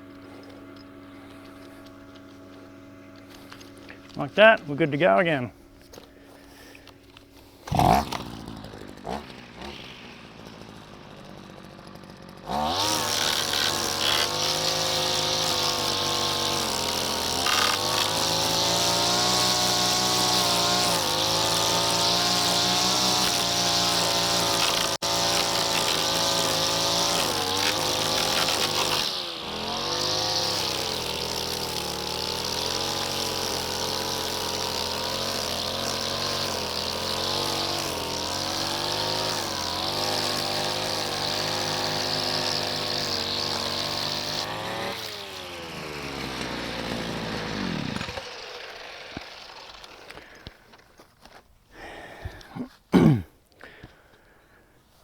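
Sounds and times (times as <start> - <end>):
brushcutter engine revving: 0.0 - 51.4.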